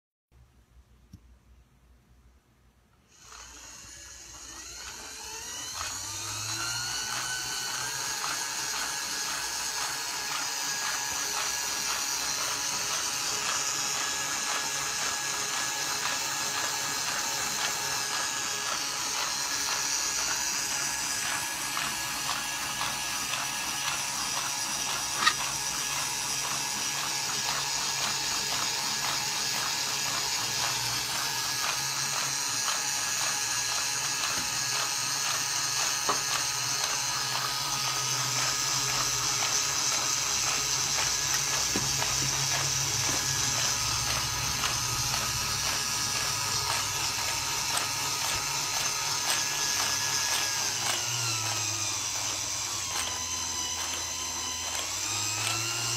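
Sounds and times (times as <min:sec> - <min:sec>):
steady whir: 0:03.0 - 0:55.9.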